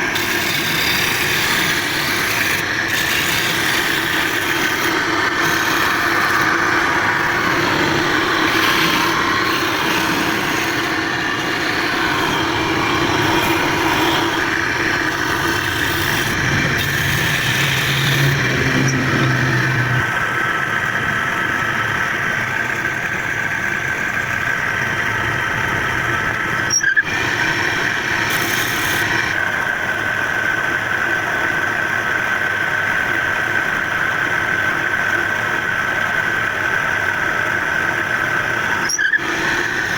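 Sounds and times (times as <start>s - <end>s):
wood lathe running: 0.0s - 39.9s.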